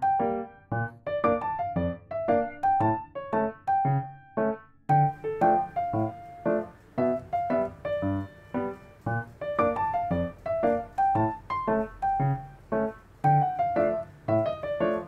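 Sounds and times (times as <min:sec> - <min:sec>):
bouncy keyboard tune: 0:00.0 - 0:15.0.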